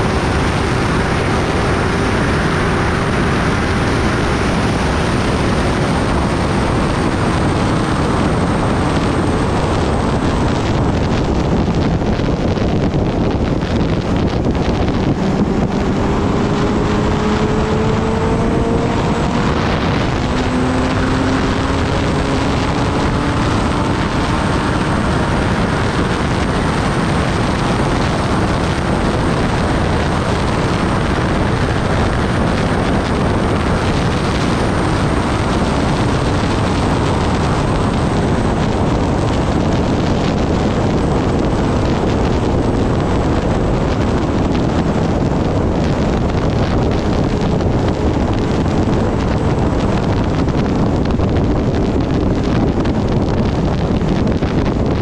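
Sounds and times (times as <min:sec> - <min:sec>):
motorcycle engine accelerating: 0:00.0 - 0:55.0
wind noise on microphone: 0:00.0 - 0:55.0.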